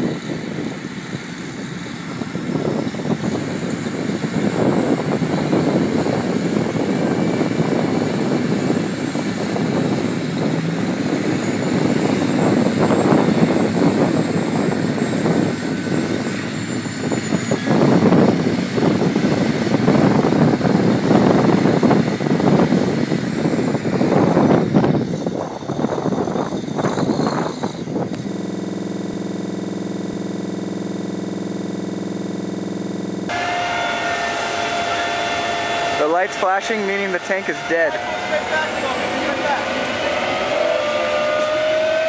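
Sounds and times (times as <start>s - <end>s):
tractor diesel engines under heavy load: 0.0s - 42.0s.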